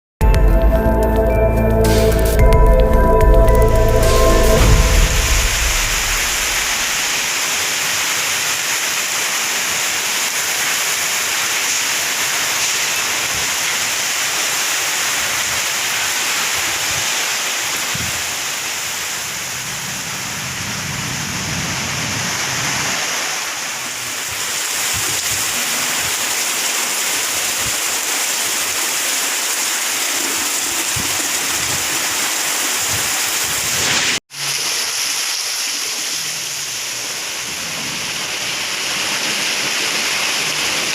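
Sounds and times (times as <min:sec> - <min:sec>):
heavy rain pouring: 0:00.2 - 0:40.9.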